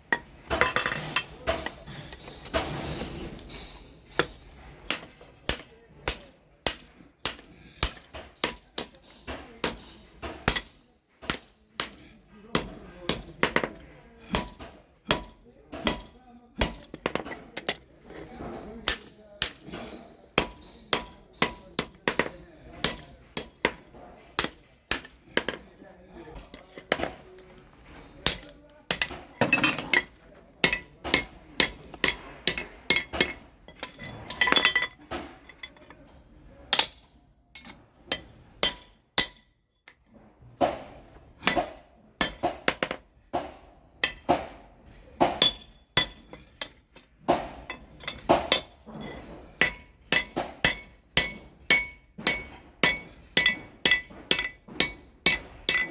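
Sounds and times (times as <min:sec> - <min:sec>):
hammer striking steel on anvil: 0:03.4 - 0:17.8, 0:18.8 - 0:25.6, 0:28.2 - 0:35.3, 0:36.7 - 0:39.5, 0:40.6 - 0:55.9.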